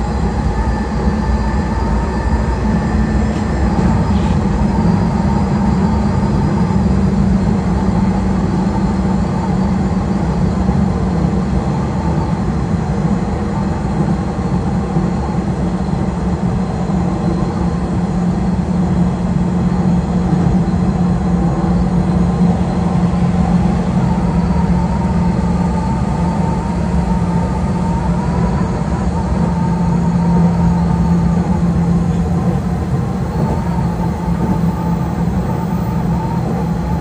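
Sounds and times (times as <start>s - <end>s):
electric train running: 0.0s - 37.0s
faint whine: 0.0s - 37.0s.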